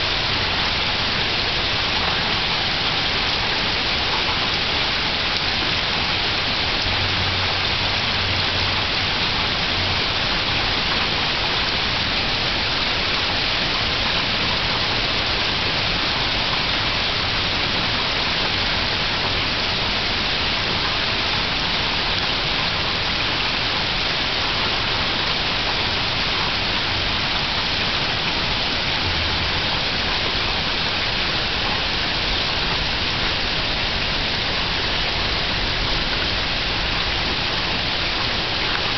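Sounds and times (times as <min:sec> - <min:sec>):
gentle rain on leaves: 0:00.0 - 0:38.9.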